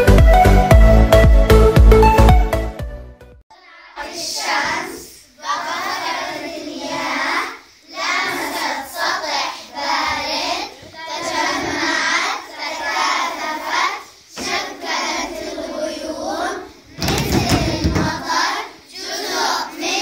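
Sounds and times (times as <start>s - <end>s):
children singing in unison: 3.5s - 20.0s.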